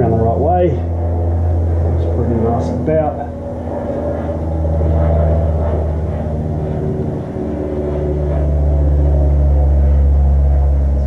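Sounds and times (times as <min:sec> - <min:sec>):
low motor drone: 0:00.0 - 0:11.0.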